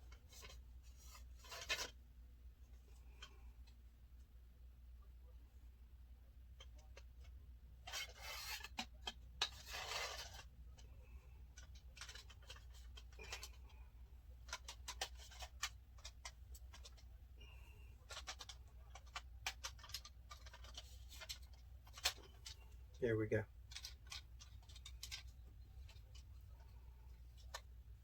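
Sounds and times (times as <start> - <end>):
rustling: 0.0 - 4.3, 6.6 - 28.0
faint low hum: 0.0 - 28.0.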